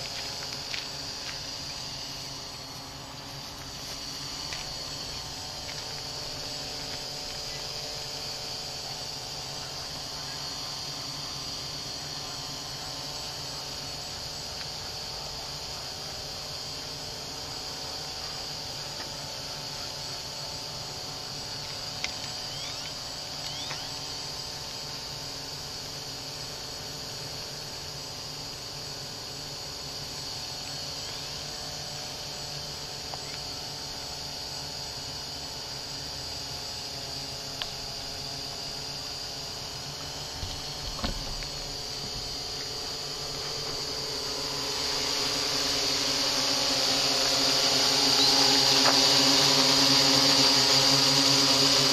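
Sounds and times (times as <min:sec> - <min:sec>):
quadcopter hovering: 0:00.0 - 0:51.9.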